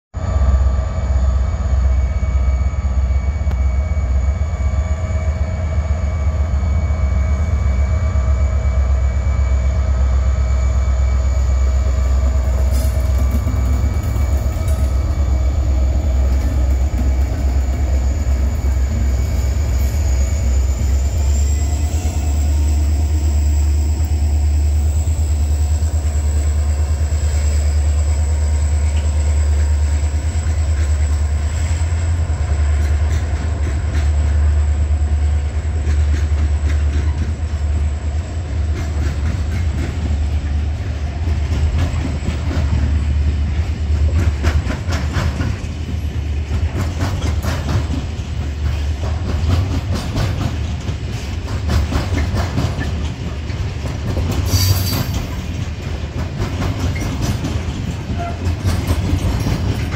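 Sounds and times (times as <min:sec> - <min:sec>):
diesel locomotive engine drone: 0:00.2 - 0:59.9.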